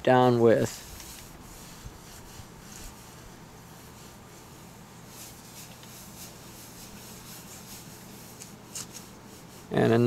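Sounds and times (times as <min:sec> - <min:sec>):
paper towel swishing on countertop: 0:00.5 - 0:10.0.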